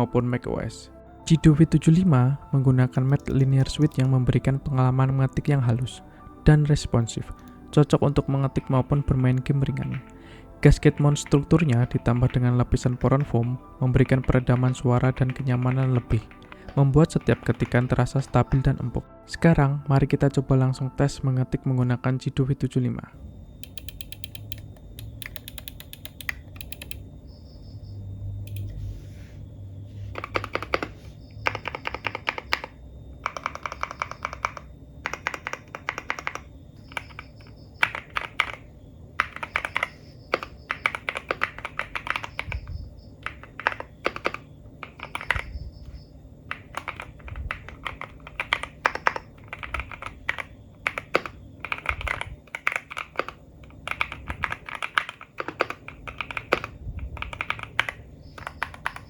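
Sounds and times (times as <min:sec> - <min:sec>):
soft mechanical keyboard typing: 0:02.6 - 0:19.0, 0:23.6 - 0:27.0, 0:28.4 - 0:28.8, 0:30.0 - 0:59.0.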